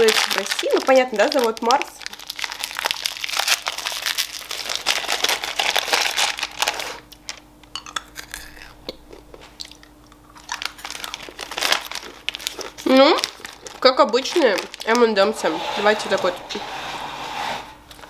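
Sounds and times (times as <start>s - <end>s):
plastic candy packet crinkling: 0.0s - 15.3s.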